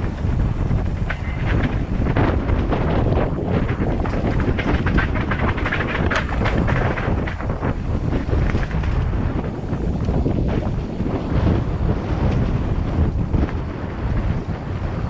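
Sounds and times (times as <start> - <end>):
bike clattering over rough ground: 0.0 - 15.0
wind buffeting microphone: 0.0 - 15.0.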